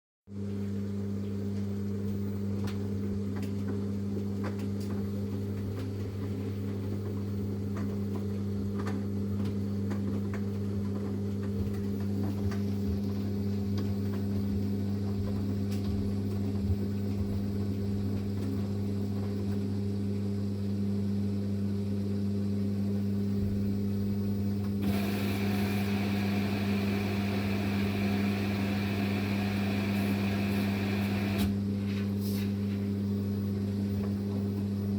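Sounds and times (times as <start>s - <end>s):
washing machine humming: 0.3s - 34.9s.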